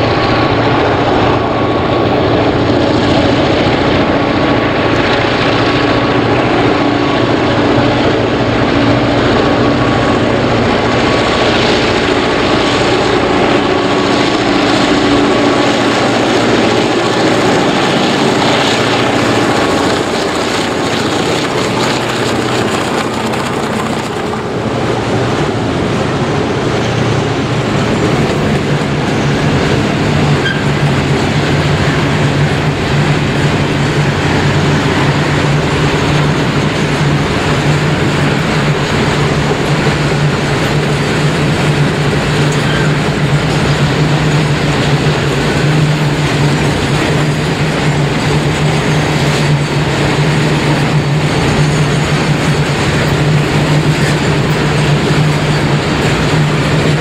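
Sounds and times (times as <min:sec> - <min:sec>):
diesel locomotives passing: 0:00.0 - 0:57.0
freight wagons rumbling and clattering: 0:00.0 - 0:57.0.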